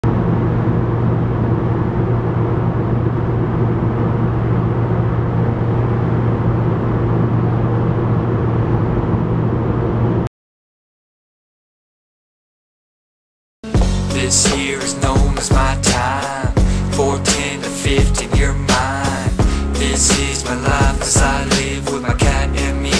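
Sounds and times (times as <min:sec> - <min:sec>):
low mechanical drone: 0:00.0 - 0:10.3, 0:13.8 - 0:22.9.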